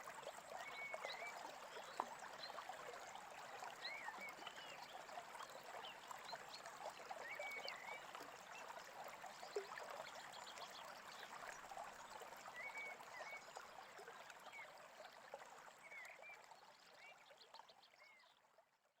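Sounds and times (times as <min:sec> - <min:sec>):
faint babbling brook: 0:00.0 - 0:19.0.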